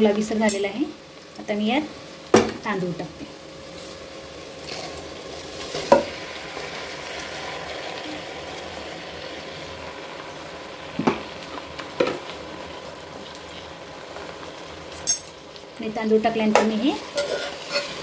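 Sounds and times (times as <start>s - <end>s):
rice sizzling in hot oil: 0.0s - 18.0s.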